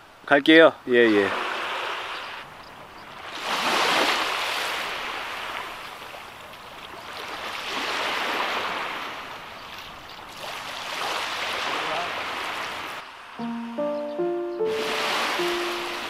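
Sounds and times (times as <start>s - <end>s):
small waves washing onto shore: 1.1s - 13.4s, 14.6s - 16.0s.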